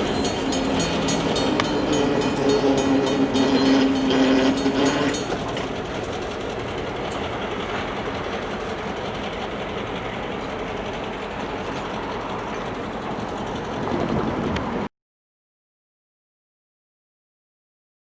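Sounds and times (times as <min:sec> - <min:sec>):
train wheels on rails: 0:00.0 - 0:14.9.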